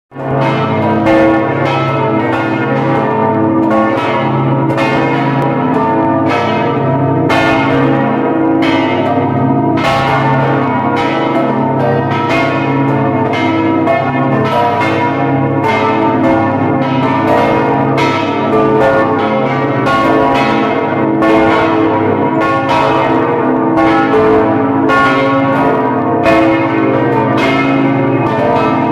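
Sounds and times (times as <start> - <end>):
large bells pealing: 0.2 - 28.9.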